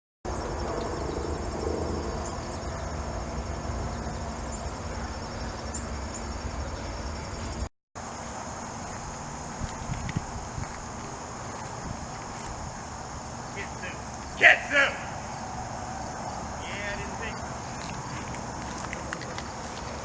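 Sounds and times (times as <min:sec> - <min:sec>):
insects trilling: 0:00.3 - 0:20.0.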